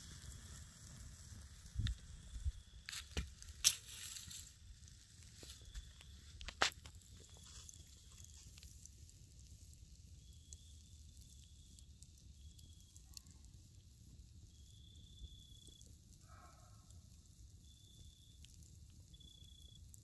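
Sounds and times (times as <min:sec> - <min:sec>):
campfire crackling and popping: 0:00.0 - 0:16.2, 0:16.8 - 0:20.0.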